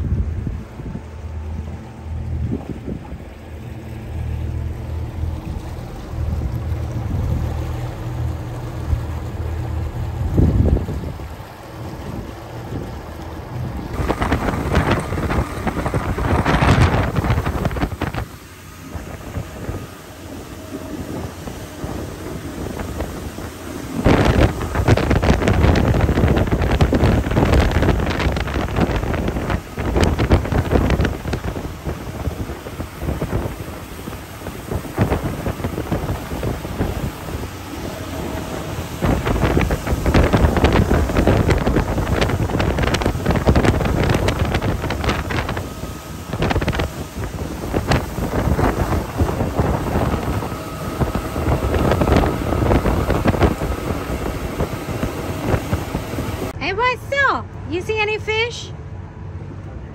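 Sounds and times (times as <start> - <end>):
wind buffeting microphone: 0.0 - 56.7.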